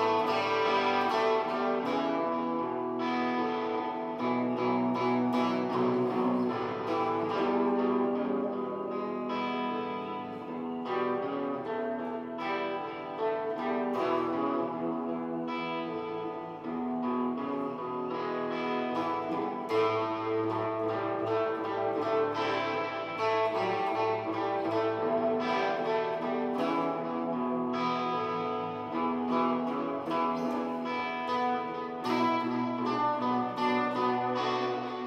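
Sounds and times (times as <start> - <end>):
blues guitar playing: 0.0 - 35.0.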